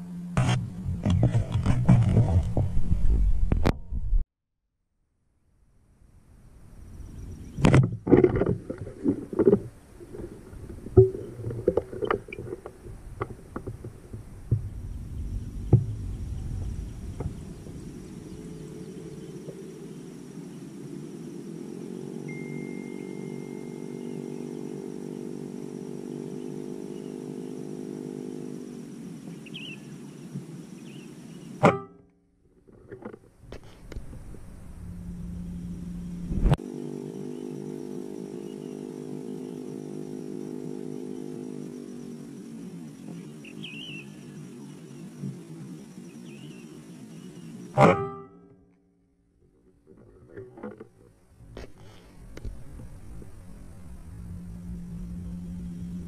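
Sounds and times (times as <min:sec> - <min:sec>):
low humming drone: 0:00.0 - 0:04.2, 0:05.6 - 0:31.7, 0:33.1 - 0:56.0.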